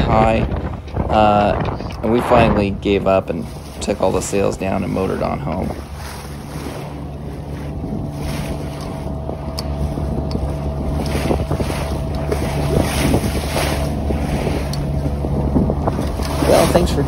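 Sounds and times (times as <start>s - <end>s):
boat motor running: 0.0s - 17.0s
water splashing against hull: 0.0s - 17.0s
wind buffeting microphone: 0.0s - 17.0s.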